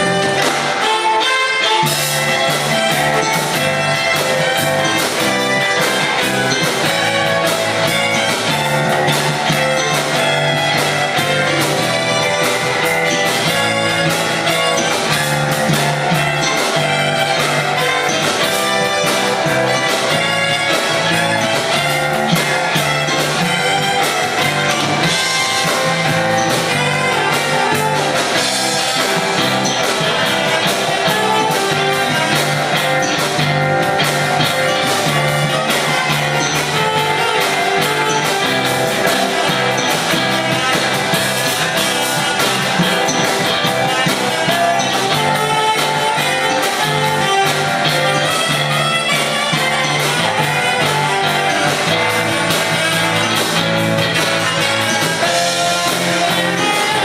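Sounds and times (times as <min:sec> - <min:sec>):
electric guitar: 0:00.0 - 0:57.0
live jazz fusion band: 0:00.0 - 0:57.0.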